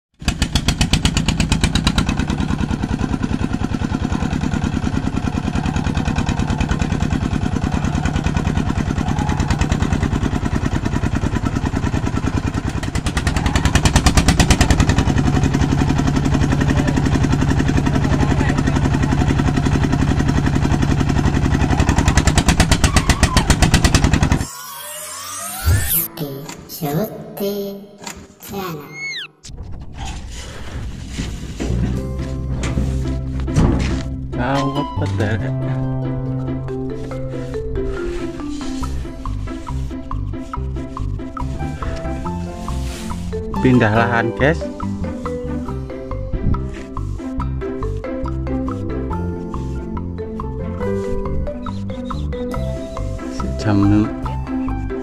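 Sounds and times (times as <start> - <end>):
threshing machine engine running: 0.1 - 26.1, 30.9 - 55.0.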